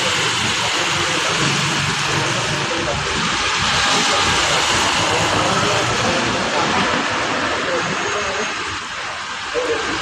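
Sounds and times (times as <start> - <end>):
heavy rain hissing: 0.0 - 10.0
street traffic rumble: 0.0 - 10.0.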